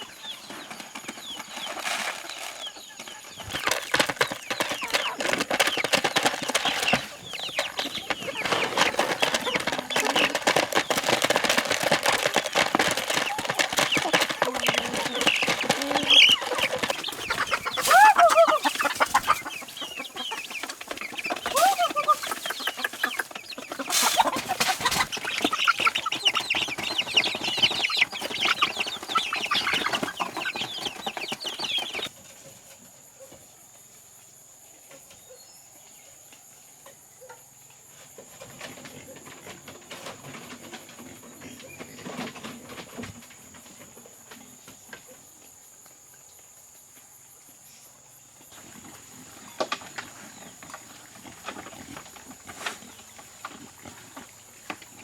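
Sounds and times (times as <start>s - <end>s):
chickens clucking: 0.0s - 33.5s, 38.1s - 45.4s, 48.5s - 55.0s.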